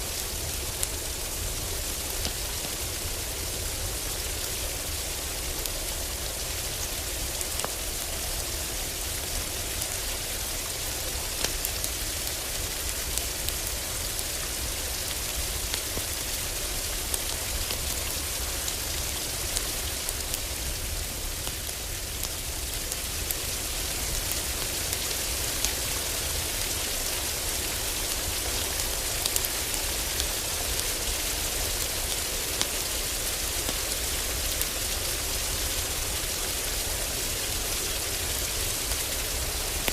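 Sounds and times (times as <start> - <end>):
heavy rain on a roof: 0.0 - 39.9
wood fire crackling: 0.0 - 39.9.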